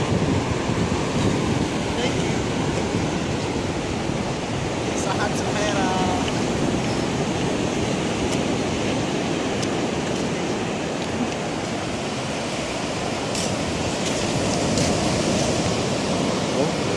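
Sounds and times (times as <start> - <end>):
surf breaking on a beach: 0.0 - 16.9.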